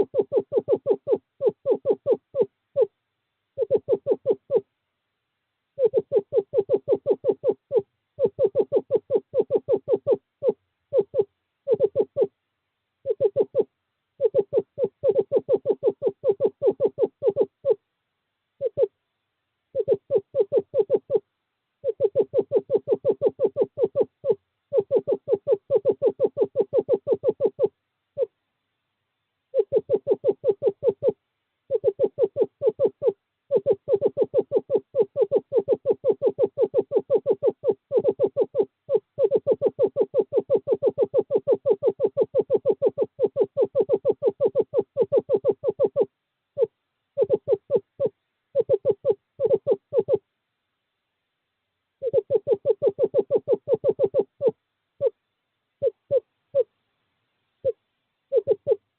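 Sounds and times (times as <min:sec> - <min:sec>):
owl trilling: 0:00.0 - 0:04.7, 0:05.8 - 0:12.4, 0:13.0 - 0:17.8, 0:18.6 - 0:19.0, 0:19.7 - 0:28.4, 0:29.5 - 0:50.3, 0:52.0 - 0:55.2, 0:55.8 - 0:56.8, 0:57.6 - 0:58.9.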